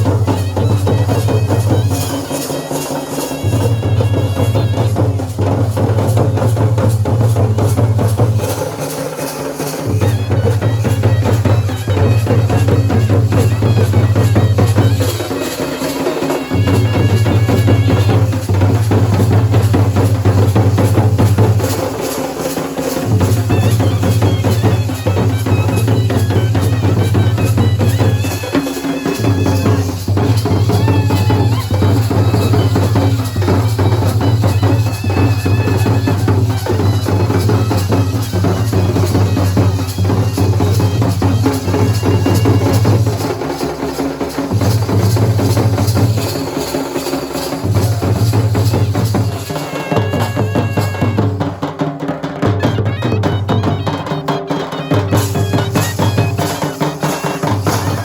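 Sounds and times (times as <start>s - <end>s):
drums in fast rolls: 0.0s - 58.0s
high melody line: 7.7s - 51.5s, 52.8s - 58.0s.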